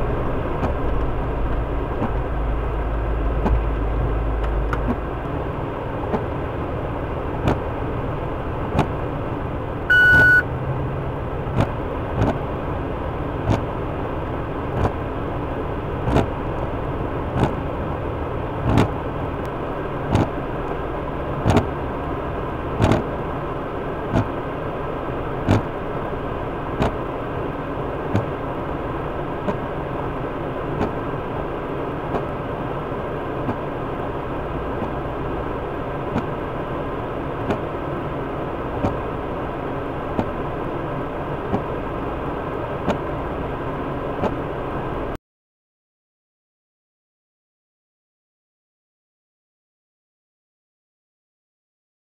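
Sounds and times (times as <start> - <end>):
vehicle engine idling: 0.0 - 45.2.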